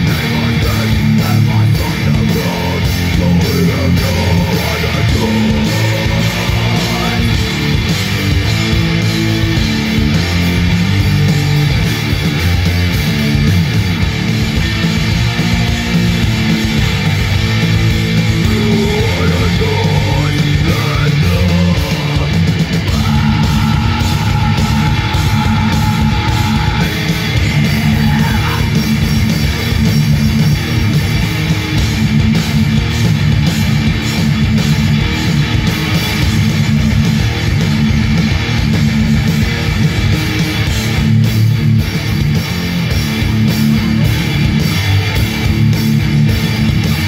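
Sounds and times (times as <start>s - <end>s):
bass guitar: 0.0s - 47.0s
distorted electric guitars: 0.0s - 47.0s
drum kit: 0.0s - 47.0s.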